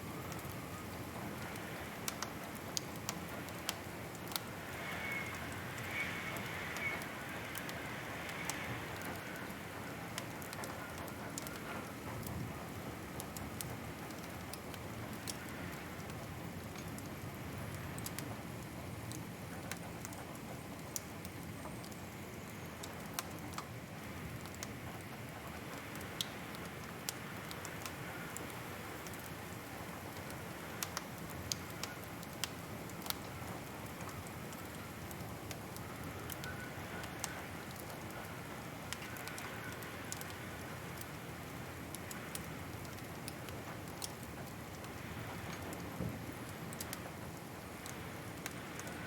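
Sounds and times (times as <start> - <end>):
wood fire crackling: 0.1 - 49.0.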